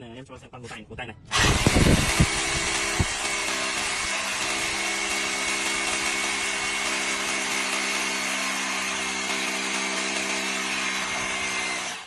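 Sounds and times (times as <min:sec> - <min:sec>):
rotary hammer drill into concrete: 0:01.3 - 0:12.0.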